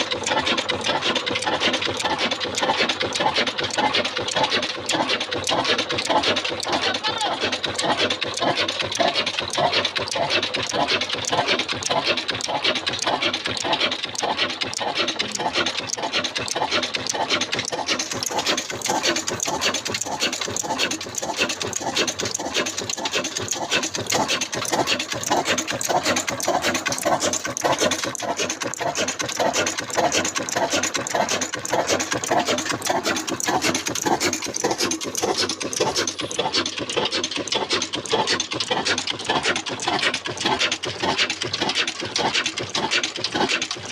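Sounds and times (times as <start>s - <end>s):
diesel engine driving flour mill: 0.0s - 43.9s.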